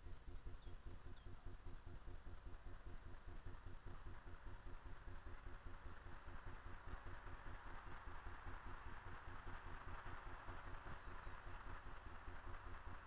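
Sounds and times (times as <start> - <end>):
low fluttering rumble: 0.0 - 13.0.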